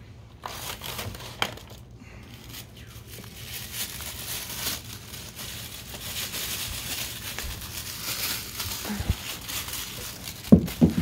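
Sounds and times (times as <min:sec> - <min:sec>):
packaging ripping and crinkling: 0:00.4 - 0:11.0.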